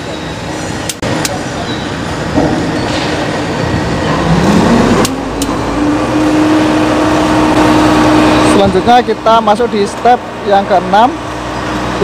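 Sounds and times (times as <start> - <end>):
steady tone: 0.0 - 10.3
machine running with low hum: 0.0 - 12.0.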